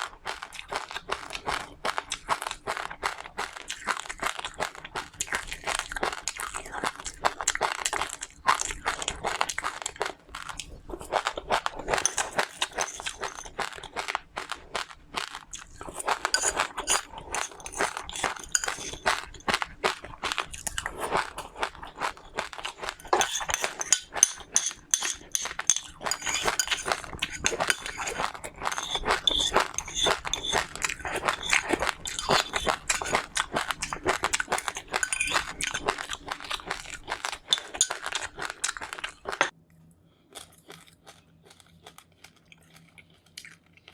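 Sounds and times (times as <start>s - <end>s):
chewing crunchy seeds: 0.0s - 43.9s.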